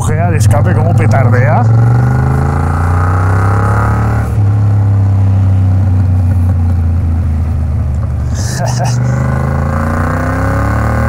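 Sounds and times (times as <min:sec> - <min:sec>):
motorcycle engine while riding: 0:00.0 - 0:11.0.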